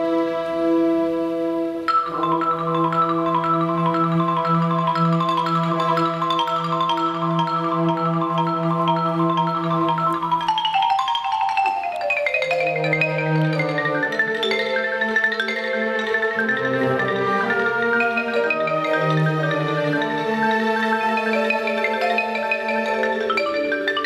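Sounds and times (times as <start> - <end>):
marimba playing rapid notes: 1.9 - 24.0.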